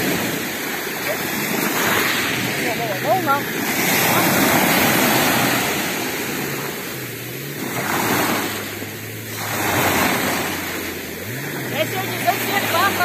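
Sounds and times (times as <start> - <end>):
small waves breaking in shallows: 0.0 - 13.0.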